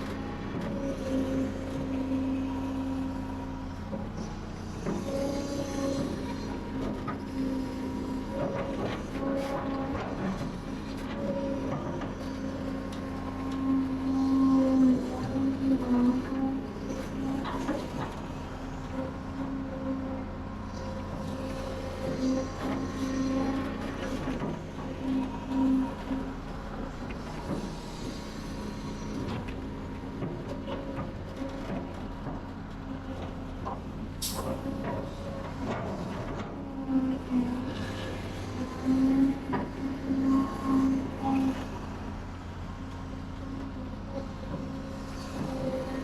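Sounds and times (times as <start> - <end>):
heavy machinery diesel engine: 0.0 - 46.0.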